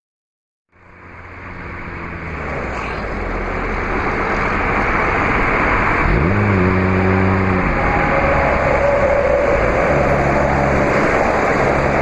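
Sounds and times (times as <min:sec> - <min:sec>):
engine hum: 0:00.7 - 0:12.0
vehicle road noise: 0:00.7 - 0:12.0.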